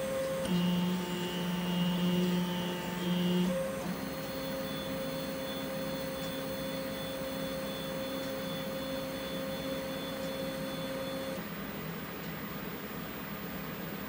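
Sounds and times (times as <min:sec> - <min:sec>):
stepper motors whining: 0:00.0 - 0:11.4
blower fan whirring: 0:00.0 - 0:14.0.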